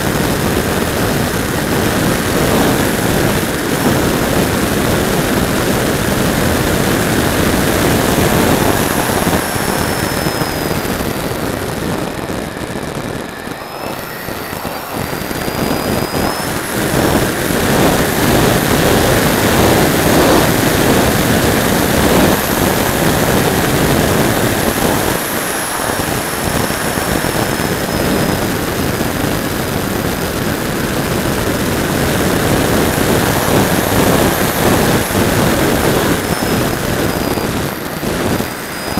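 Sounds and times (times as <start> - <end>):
high electric motor whine: 0.0 - 38.9
rushing airflow: 0.0 - 38.9.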